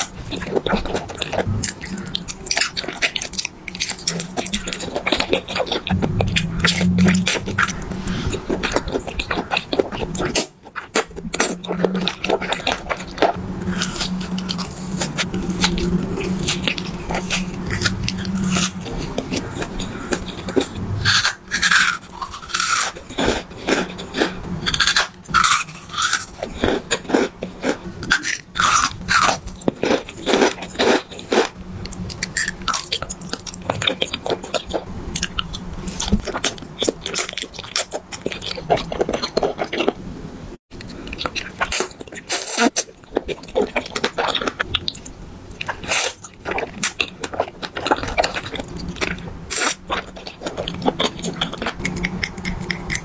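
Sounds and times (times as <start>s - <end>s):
chewing candies crunching: 0.0s - 40.0s, 40.8s - 53.0s
low steady hum: 0.0s - 53.0s.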